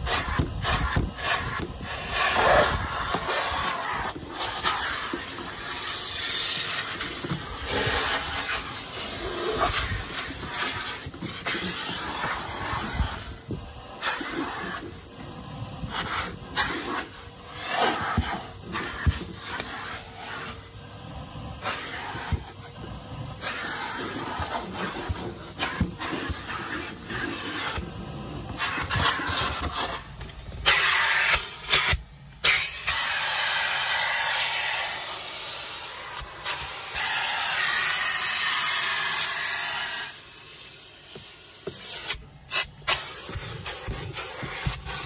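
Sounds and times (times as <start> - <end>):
vacuum cleaner hissing: 0.0 - 45.0.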